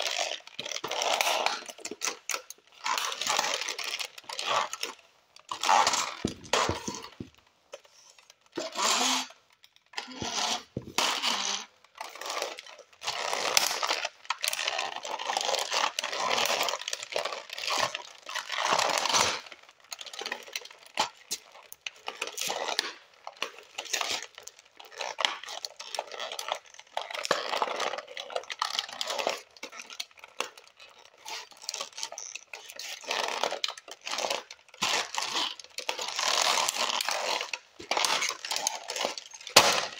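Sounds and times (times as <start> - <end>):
toy cars crushed underfoot: 0.0 - 39.9.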